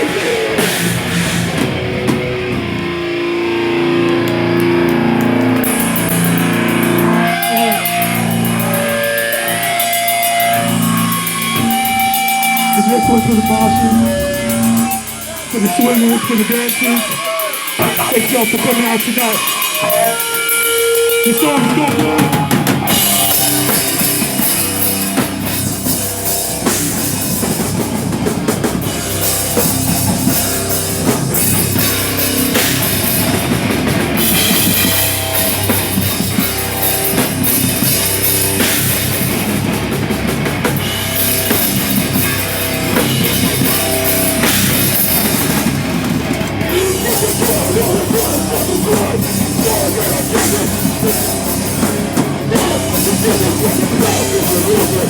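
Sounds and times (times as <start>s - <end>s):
drum kit with cymbals: 0.0s - 3.6s, 5.6s - 55.0s
bass guitar: 0.0s - 55.0s
electric guitars: 0.0s - 55.0s.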